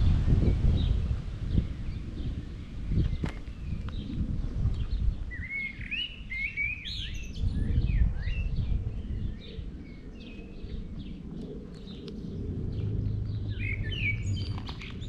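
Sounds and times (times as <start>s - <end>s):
wind rumble on microphone: 0.0s - 15.0s
songbird chirping: 0.4s - 15.0s.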